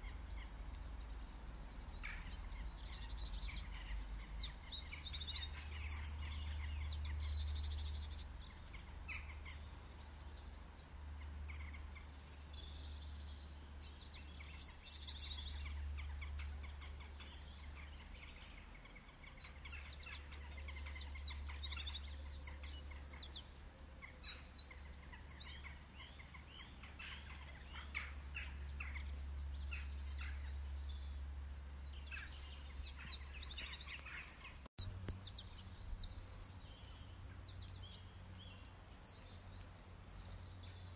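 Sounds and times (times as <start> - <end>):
birds chirping and singing: 0.0 - 40.9.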